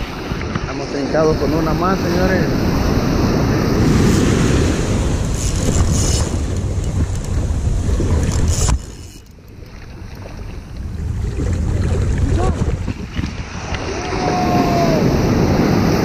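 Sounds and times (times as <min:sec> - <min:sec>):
ocean surf breaking: 0:00.0 - 0:08.5, 0:09.8 - 0:16.0
wind buffeting microphone: 0:00.0 - 0:16.0.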